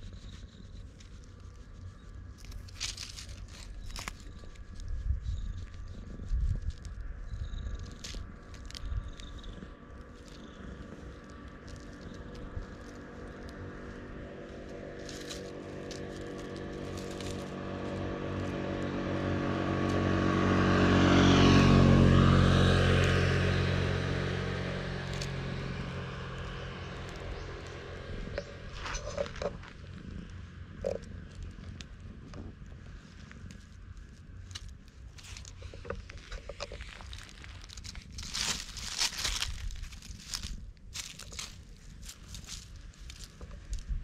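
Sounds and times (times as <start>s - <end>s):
hand rubbing fur: 0.0s - 19.8s, 23.1s - 44.0s.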